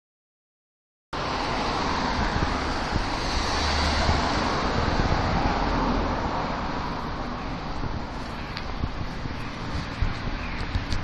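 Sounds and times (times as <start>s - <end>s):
cars on a road: 1.2s - 11.0s.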